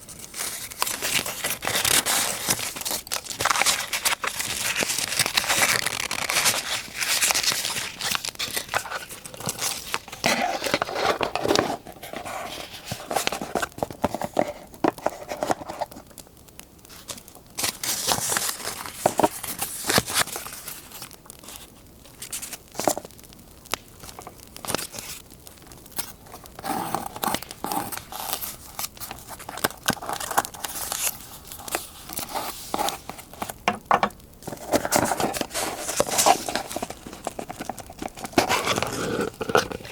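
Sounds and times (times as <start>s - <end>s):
paper crinkling and rustling: 0.0s - 16.2s, 16.8s - 39.9s.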